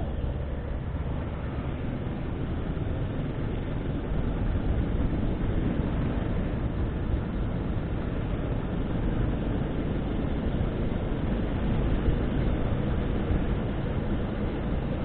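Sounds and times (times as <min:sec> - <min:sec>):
motorcycle rumble: 0:00.0 - 0:15.0.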